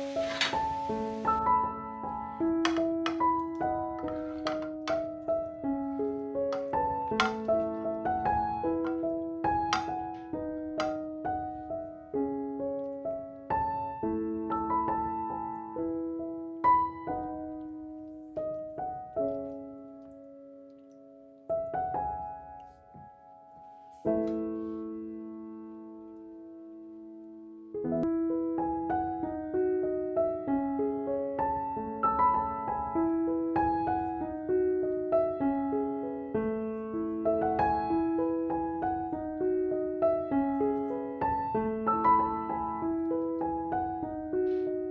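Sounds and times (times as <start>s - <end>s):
gentle piano music: 0.0s - 44.9s.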